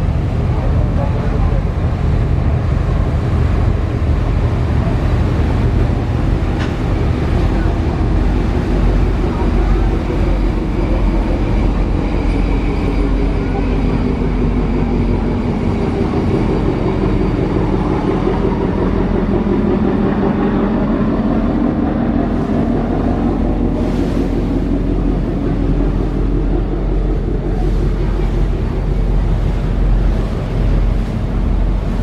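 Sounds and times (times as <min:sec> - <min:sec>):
boat diesel engines droning: 0:00.0 - 0:32.0
water rushing along hull: 0:00.0 - 0:32.0.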